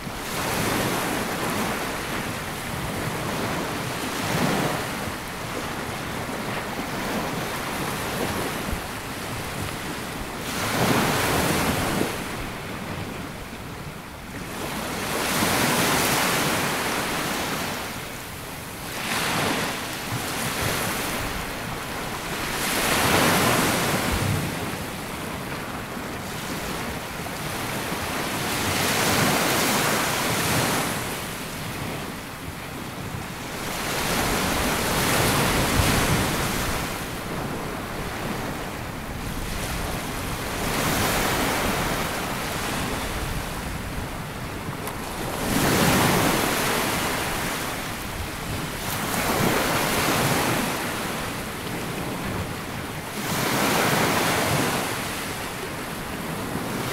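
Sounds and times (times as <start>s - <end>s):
waves washing up a beach: 0.0s - 56.9s
wind on microphone: 0.0s - 56.9s.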